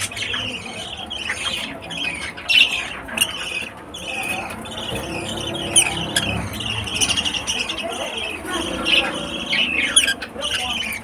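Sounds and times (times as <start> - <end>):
lovebirds chattering and squawking: 0.0 - 11.0.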